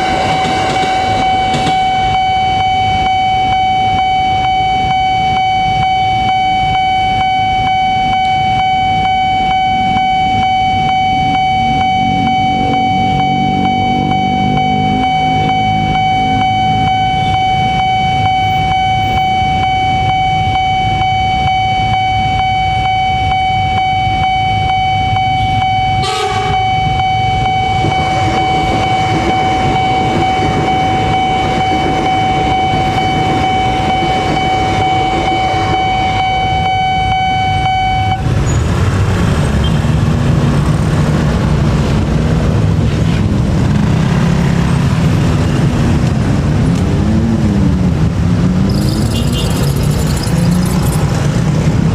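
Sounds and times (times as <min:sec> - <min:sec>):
level crossing alarm tone: 0:00.0 - 0:38.4, 0:48.5 - 0:51.9
rumble of rail and road traffic: 0:00.0 - 0:51.9.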